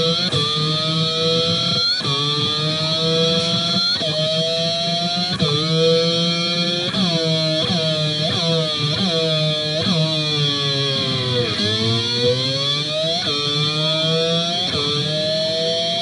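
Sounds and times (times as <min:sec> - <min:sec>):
electric guitar with glass slide: 0:00.0 - 0:16.0.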